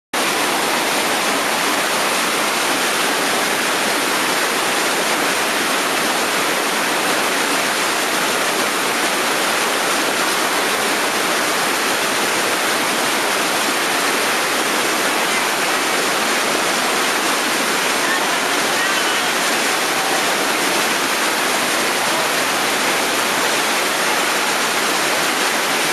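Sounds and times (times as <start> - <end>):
river rapids rushing: 0.2 - 25.9.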